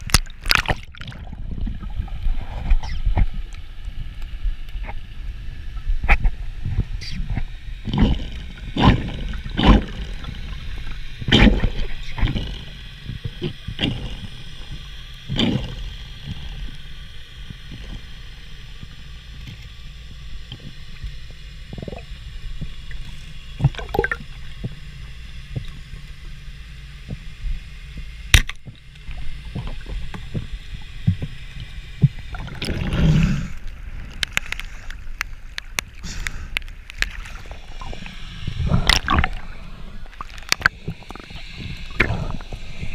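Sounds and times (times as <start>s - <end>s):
underwater water rumble: 0.0s - 42.9s.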